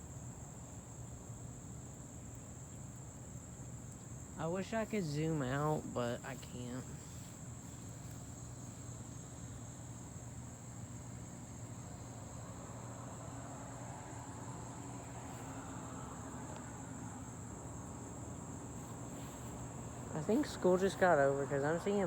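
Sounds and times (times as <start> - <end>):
high-pitched insect chorus: 0.0 - 22.0
low steady hum: 0.0 - 22.0.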